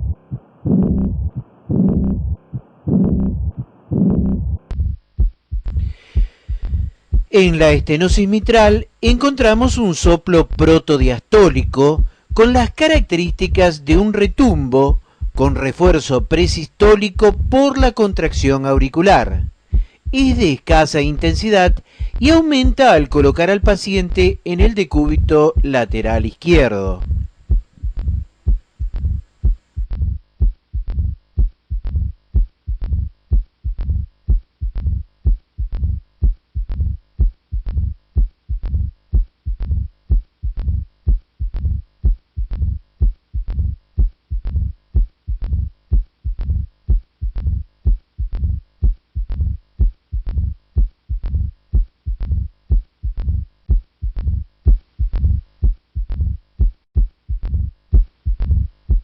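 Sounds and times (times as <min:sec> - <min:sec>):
heartbeat through stethoscope: 0:00.0 - 0:59.0.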